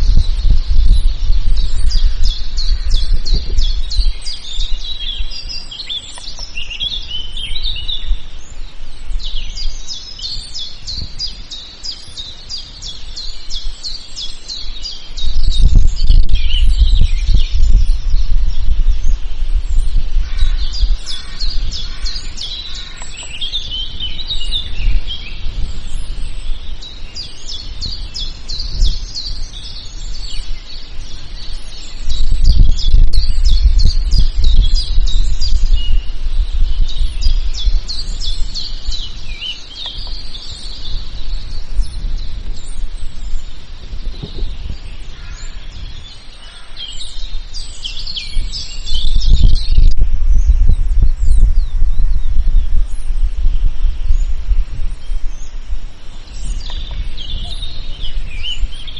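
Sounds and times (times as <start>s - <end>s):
birds chirping and singing: 0.0s - 58.9s.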